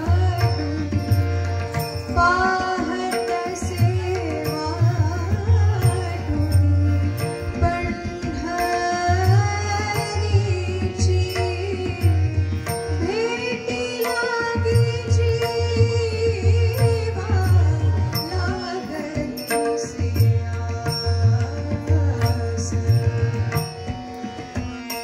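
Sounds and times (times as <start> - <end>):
woman singing devotional song: 0.0 - 23.8
harmonium: 0.0 - 25.0
tabla: 0.0 - 25.0.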